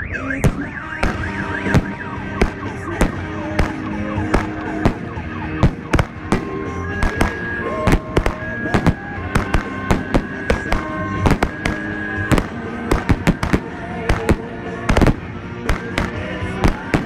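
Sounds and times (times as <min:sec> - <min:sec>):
firework battery bangs: 0:00.4 - 0:17.0.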